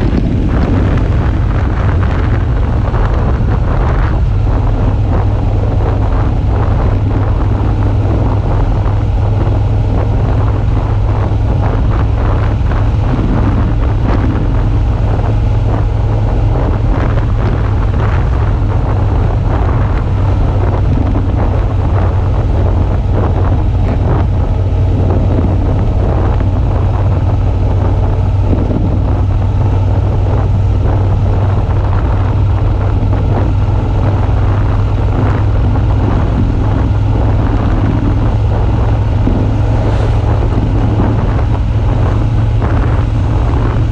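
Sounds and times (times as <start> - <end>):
motorcycle engine running: 0.0 - 43.9
wind noise on microphone: 0.0 - 43.9.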